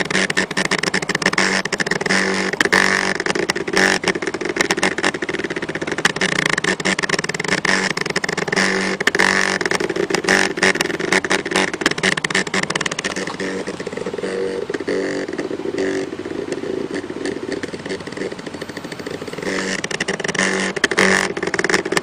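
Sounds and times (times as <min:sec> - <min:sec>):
hum tones: 0:00.0 - 0:22.0
rapid ticking: 0:00.0 - 0:22.0
stepper motors whining and buzzing: 0:00.0 - 0:22.0.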